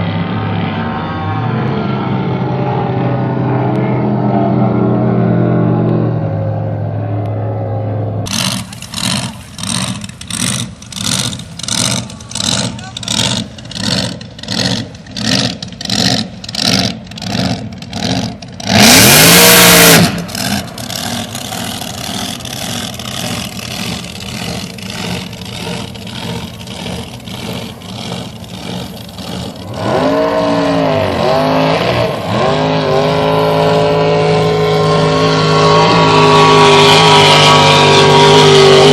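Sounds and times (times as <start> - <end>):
boat engine revving: 0.0 - 38.9.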